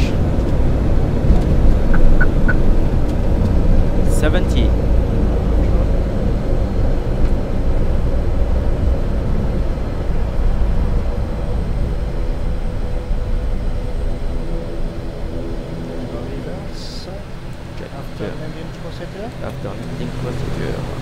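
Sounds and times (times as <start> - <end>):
steady multi-tone hum: 0.0 - 21.0
turboprop engines rumbling: 0.0 - 21.0.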